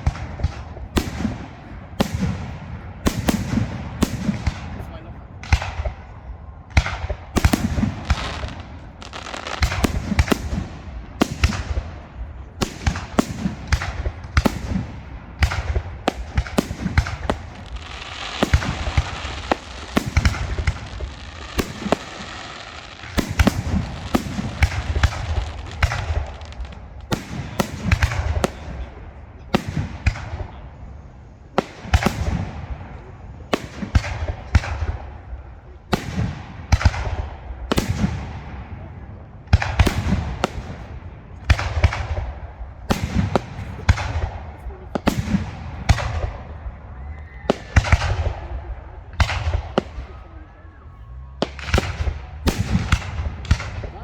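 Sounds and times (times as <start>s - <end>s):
fireworks crackling: 0.0s - 54.0s.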